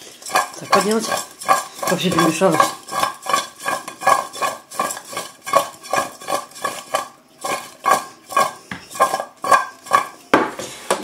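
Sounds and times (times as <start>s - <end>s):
potato wedges clattering in a bowl: 0.0s - 10.4s.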